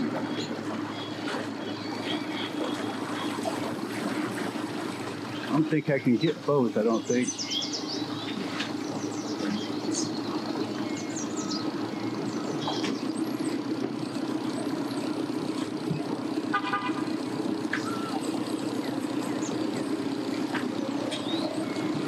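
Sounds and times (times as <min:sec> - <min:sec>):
birds chirping: 0:00.0 - 0:22.0
engine humming: 0:00.0 - 0:22.0.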